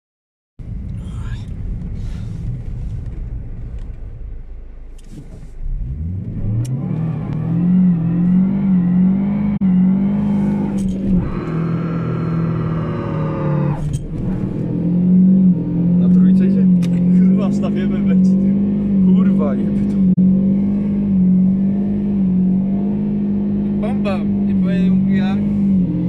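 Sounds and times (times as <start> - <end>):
car engine revving: 0.6 - 26.0.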